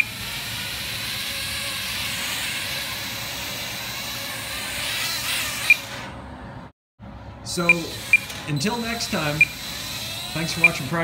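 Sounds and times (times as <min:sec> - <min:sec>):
quadcopter propellers whirring: 0:00.0 - 0:06.6, 0:07.5 - 0:11.0.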